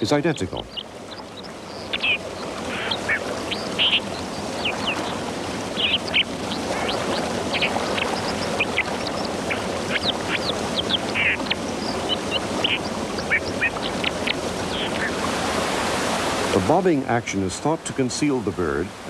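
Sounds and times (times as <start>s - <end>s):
birds calling with sharp high notes: 0.0s - 15.3s
rushing stream: 0.0s - 19.0s.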